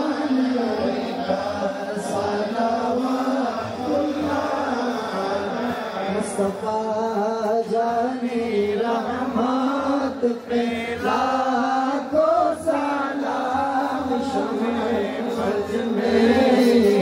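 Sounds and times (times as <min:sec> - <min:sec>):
men chanting: 0:00.0 - 0:17.0.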